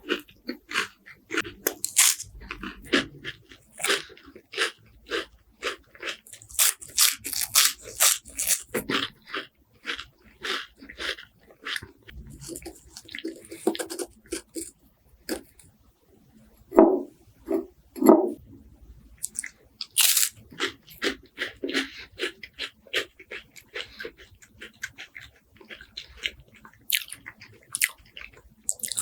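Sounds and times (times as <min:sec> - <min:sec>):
crispy wafers being chewed: 0:00.0 - 0:15.6, 0:19.2 - 0:29.0.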